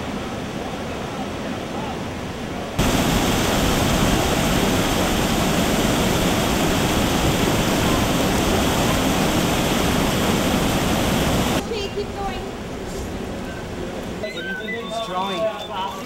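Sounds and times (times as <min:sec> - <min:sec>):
water rushing over a weir: 0:00.0 - 0:14.6.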